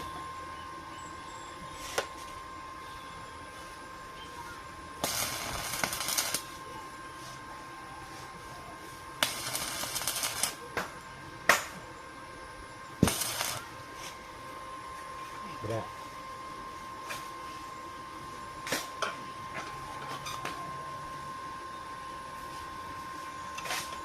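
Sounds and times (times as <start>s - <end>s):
arc welding crackling: 0.0s - 24.0s.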